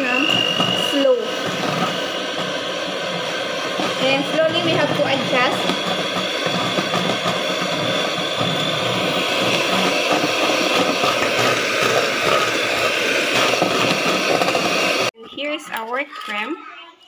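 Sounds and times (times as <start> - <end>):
electric hand mixer whine: 0.0 - 15.2.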